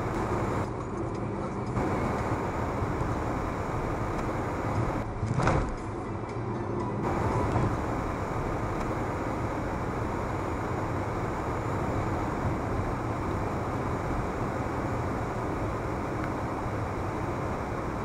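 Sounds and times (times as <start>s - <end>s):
car road noise: 0.0s - 18.0s.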